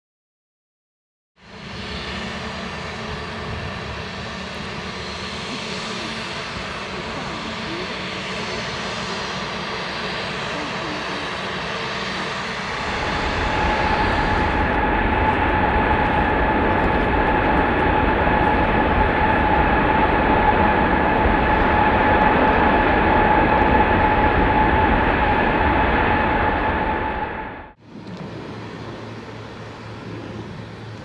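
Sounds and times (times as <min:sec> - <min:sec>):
jet engine roaring with whine: 0:01.4 - 0:31.0
quieter jet engine: 0:01.4 - 0:31.0.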